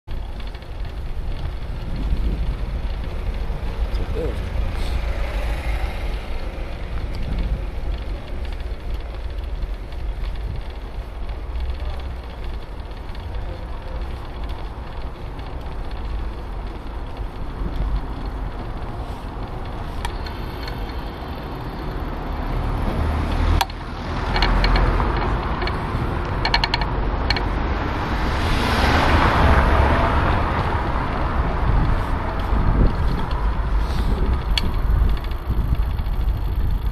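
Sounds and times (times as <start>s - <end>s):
bicycle tyre noise and rattle: 0.0s - 36.9s
rattling clicks: 0.1s - 27.6s, 31.7s - 36.9s
wind rumble on microphone: 0.1s - 36.9s.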